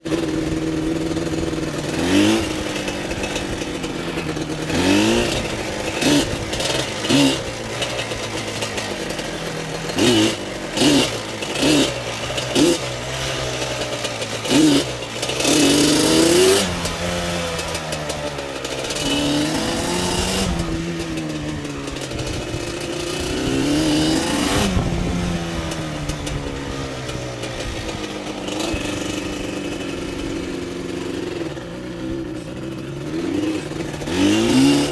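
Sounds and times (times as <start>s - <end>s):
vehicle engine idling and revving: 0.0s - 34.9s.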